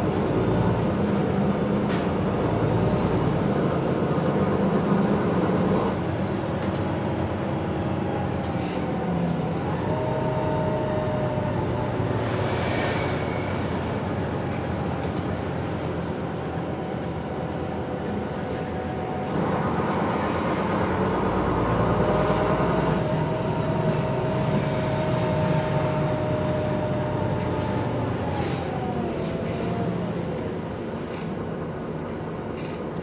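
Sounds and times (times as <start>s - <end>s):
bus engine and road rumble: 0.0s - 33.0s.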